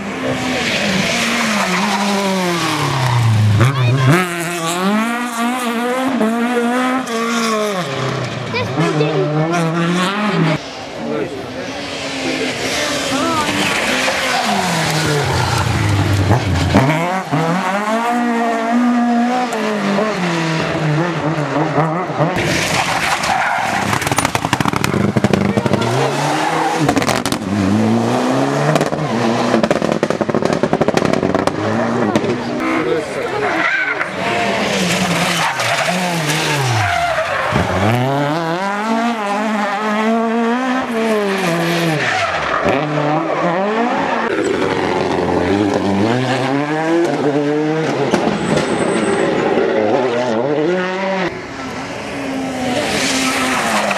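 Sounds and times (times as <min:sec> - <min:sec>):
tyres skidding on road: 0:00.0 - 0:10.8, 0:11.5 - 0:53.9
rally car engine revving: 0:00.0 - 0:53.9.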